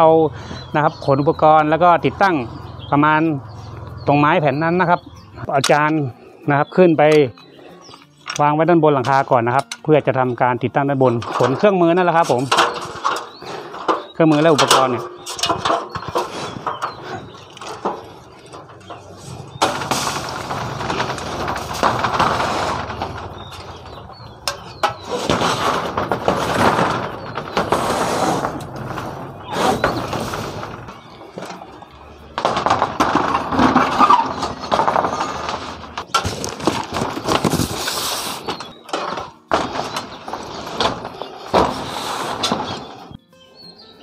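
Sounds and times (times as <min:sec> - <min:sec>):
metal scraping and clanking on roof: 0:07.0 - 0:43.2.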